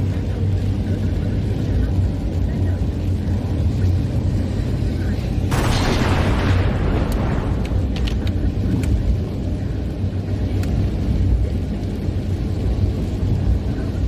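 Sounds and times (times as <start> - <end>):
car interior rumble while driving: 0.0 - 5.5, 6.6 - 14.0.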